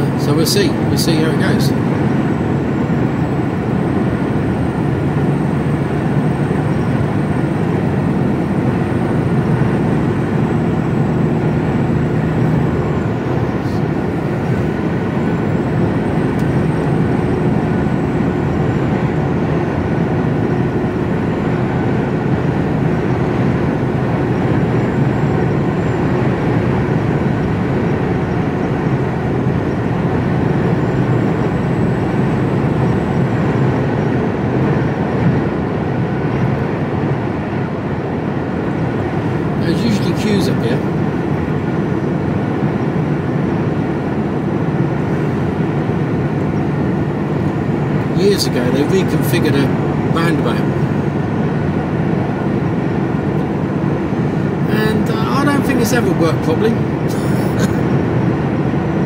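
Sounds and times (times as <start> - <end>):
road noise: 0.0 - 59.0
truck diesel engine drone: 0.0 - 59.0.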